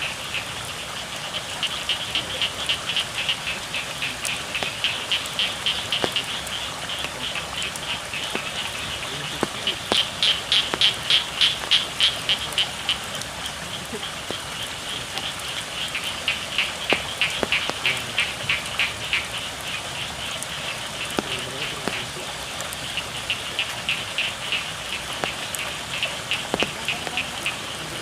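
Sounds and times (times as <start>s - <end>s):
frogs calling: 0.0s - 28.0s
rain hissing: 0.0s - 28.0s
drip tapping: 2.2s - 19.3s, 21.0s - 28.0s.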